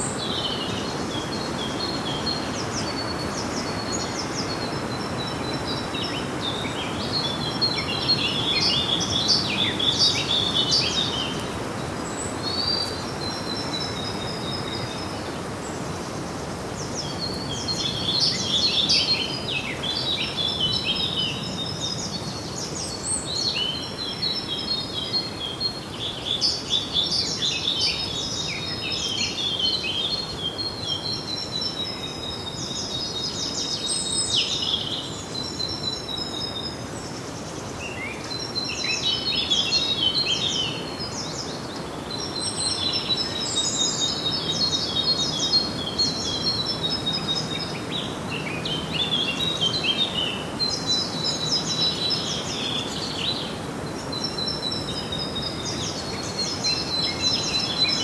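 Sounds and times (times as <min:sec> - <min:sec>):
songbirds twittering: 0:00.0 - 0:58.0
steady background hiss: 0:00.0 - 0:58.0.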